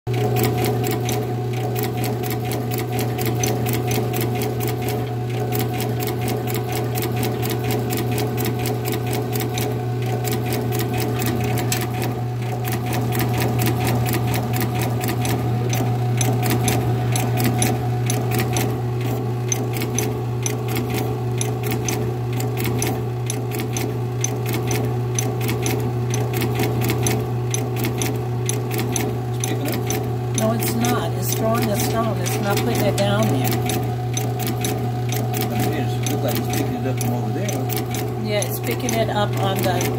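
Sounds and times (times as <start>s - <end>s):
bowl feeder humming: 0.1s - 39.9s
rapid mechanical clicking: 0.1s - 39.9s.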